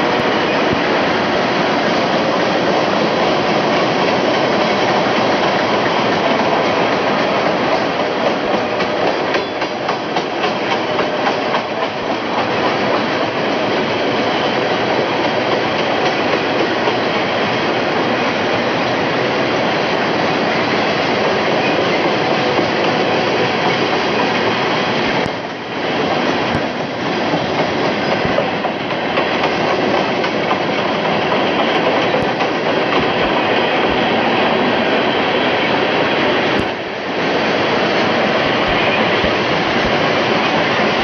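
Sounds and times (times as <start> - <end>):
freight train wheels on rails: 0.0 - 41.0.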